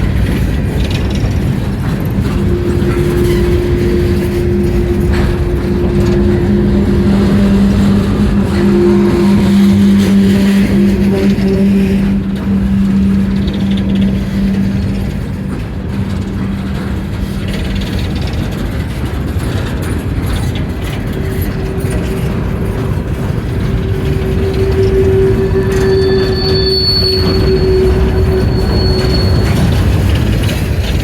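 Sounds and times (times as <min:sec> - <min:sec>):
train wheel squeal: 0:00.0 - 0:31.0
train wheels rumbling on rail: 0:00.0 - 0:31.0.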